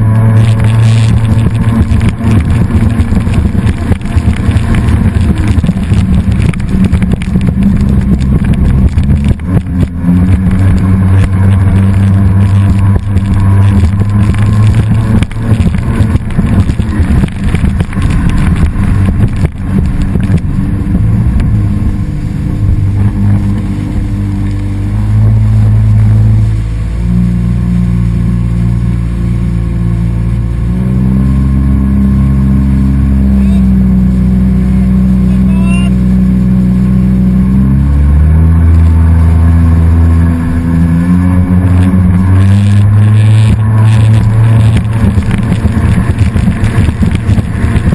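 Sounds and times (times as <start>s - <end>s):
motor engine running: 0.0s - 47.9s.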